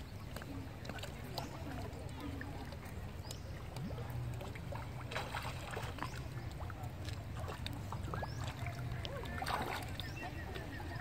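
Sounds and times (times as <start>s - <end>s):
water splashing and lapping: 0.0s - 11.0s.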